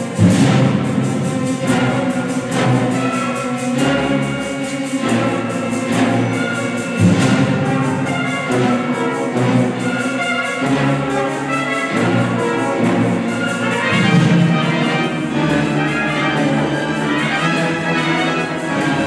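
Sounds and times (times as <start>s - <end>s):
orchestra playing sustained chords: 0.0s - 19.0s.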